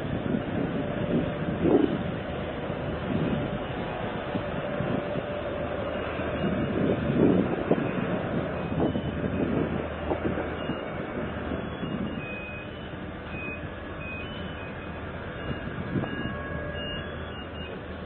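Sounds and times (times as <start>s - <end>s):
constant low hum: 0.0s - 18.0s
ship rumbling underway: 0.0s - 18.0s.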